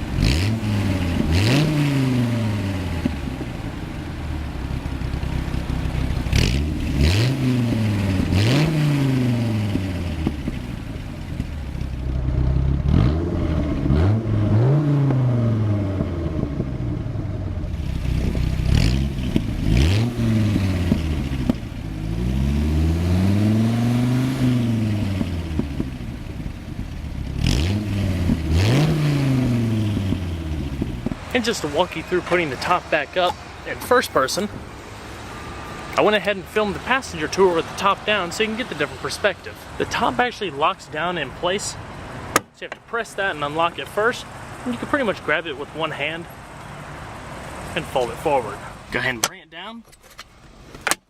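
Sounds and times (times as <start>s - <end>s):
car engine revving: 0.0s - 49.3s.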